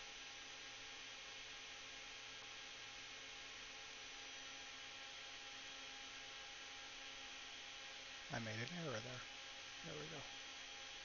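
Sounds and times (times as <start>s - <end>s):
electrical mains hum: 0.0s - 11.0s
faint steady hiss: 0.0s - 11.0s.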